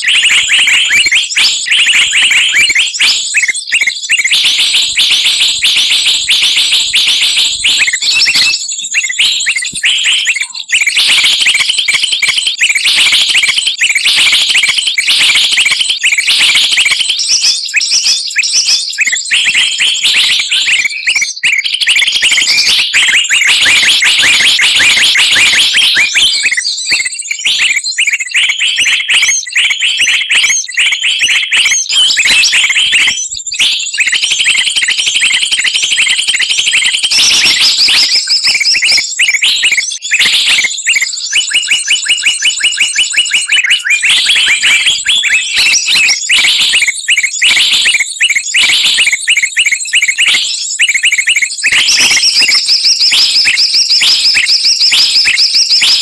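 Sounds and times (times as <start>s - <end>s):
chorus of small songbirds: 0.0s - 56.0s.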